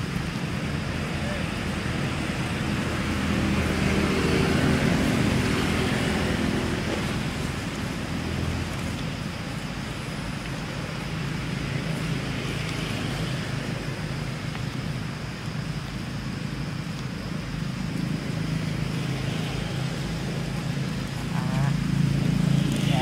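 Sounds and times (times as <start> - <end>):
outdoor background hum and rumble: 0.0 - 23.0.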